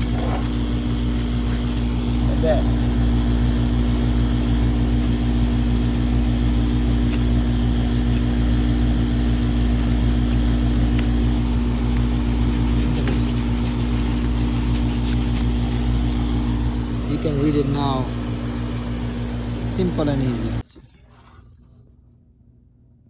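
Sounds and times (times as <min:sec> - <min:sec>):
condenser fan rushing: 0:00.0 - 0:22.0
compressor hum: 0:00.0 - 0:23.0.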